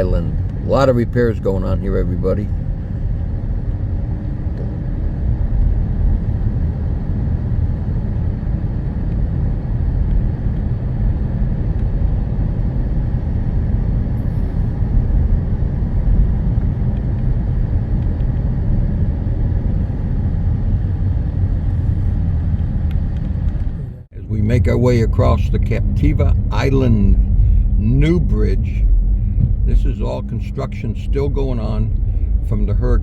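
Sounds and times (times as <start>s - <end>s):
vehicle driving on road: 0.0s - 33.0s
wind noise: 0.0s - 33.0s.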